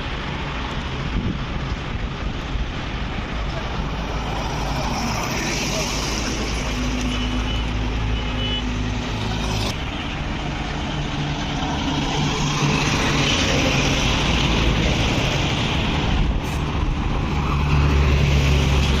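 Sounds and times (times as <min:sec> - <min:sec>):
road and traffic noise: 0:00.0 - 0:19.0.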